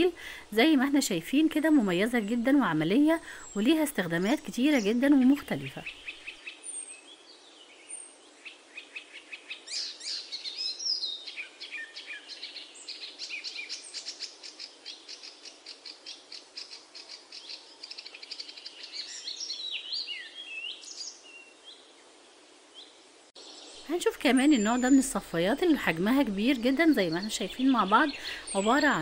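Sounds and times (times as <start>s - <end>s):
birds singing: 0.0s - 29.0s.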